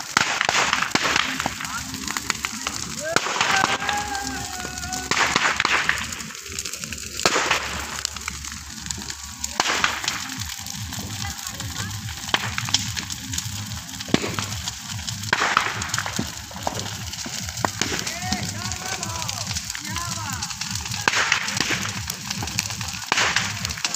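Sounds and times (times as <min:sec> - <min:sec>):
bonfire flames rushing: 0:00.0 - 0:23.9
fire crackling: 0:00.0 - 0:23.9
loud pops from fire: 0:00.0 - 0:23.9.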